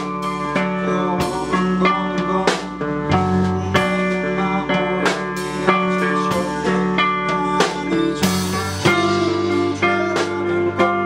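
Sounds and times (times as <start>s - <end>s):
bass line: 0.0s - 11.0s
electric guitar picking: 0.0s - 11.0s.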